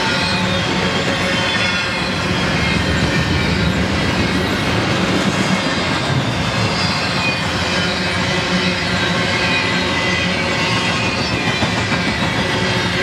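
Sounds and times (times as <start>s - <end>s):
steel wheels on rails: 0.0s - 13.0s.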